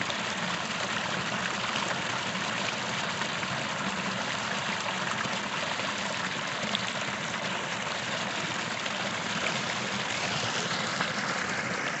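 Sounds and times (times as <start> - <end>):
creek flowing over rocks: 0.0 - 12.0.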